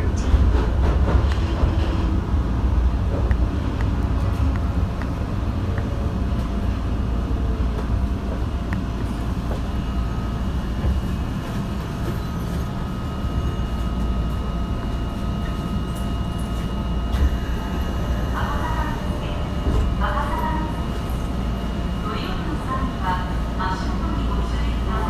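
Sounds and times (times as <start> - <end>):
steady high whine: 0.0 - 25.0
subway train wheels rumbling on rail: 0.0 - 25.0.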